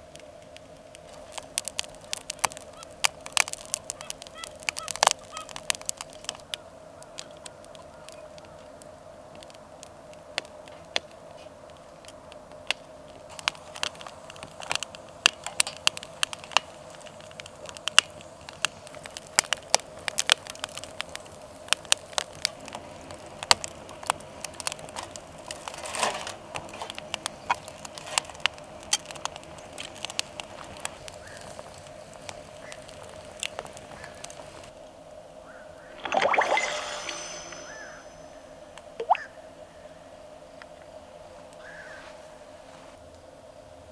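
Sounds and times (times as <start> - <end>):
firewood crackling and popping: 0.0 - 43.3
faint steady hum: 0.0 - 43.9.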